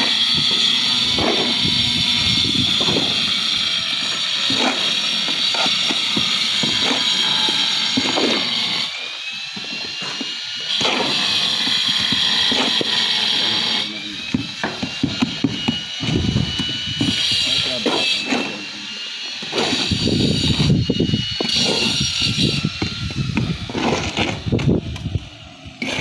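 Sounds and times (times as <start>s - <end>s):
shovels scraping on concrete: 0.0s - 1.8s, 2.6s - 20.8s, 21.4s - 24.6s, 25.8s - 26.0s
high-pitched machine whine: 0.0s - 26.0s.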